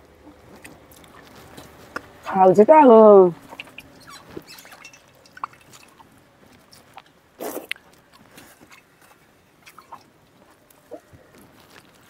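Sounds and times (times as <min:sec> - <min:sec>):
chewing: 0:00.2 - 0:02.3, 0:03.4 - 0:12.0.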